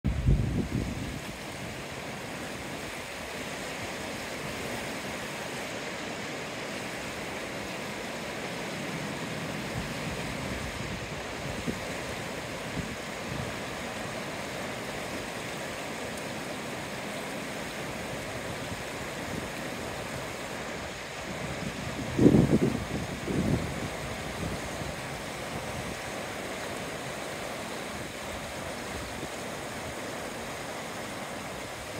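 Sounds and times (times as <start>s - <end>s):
river rushing: 0.0s - 31.9s.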